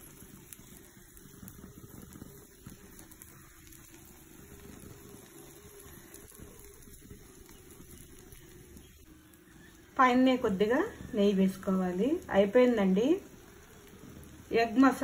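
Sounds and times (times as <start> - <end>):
omelette sizzling on a griddle: 0.0 - 15.0.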